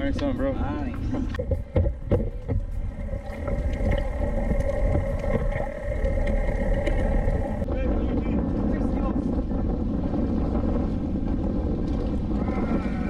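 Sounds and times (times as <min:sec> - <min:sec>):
boat engine running: 0:00.0 - 0:13.0
wind noise on microphone: 0:00.0 - 0:13.0.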